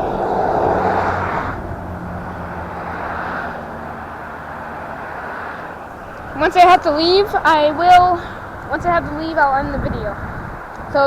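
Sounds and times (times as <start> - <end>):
vehicle rushing and rumbling: 0.0 - 11.0.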